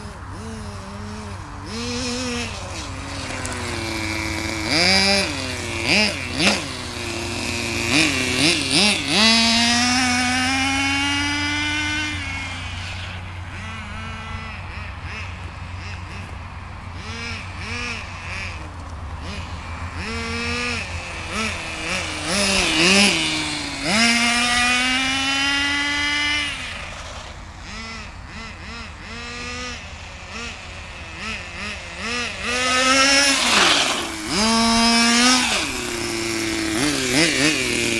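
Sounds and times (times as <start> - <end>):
radio-controlled car engine revving: 0.0 - 37.9.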